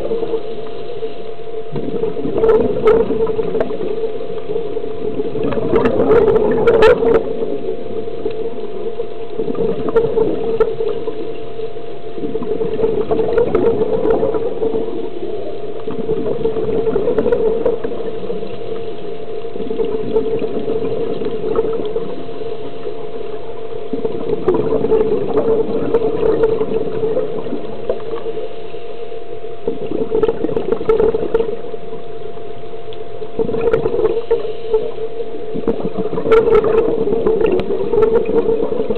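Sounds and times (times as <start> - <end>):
low hum with faint tone: 0.0 - 38.9
underwater regulator bubbles: 0.0 - 38.9.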